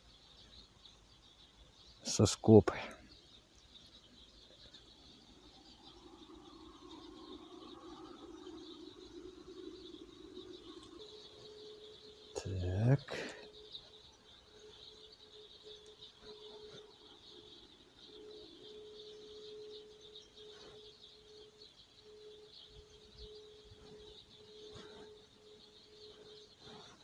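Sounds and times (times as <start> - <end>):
faint high chirping: 0.0 - 27.0.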